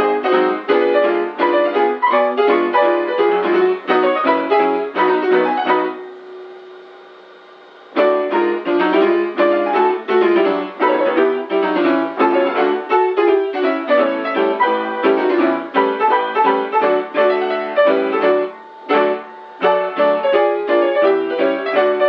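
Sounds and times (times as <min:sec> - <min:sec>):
piano background music: 0:00.0 - 0:22.0.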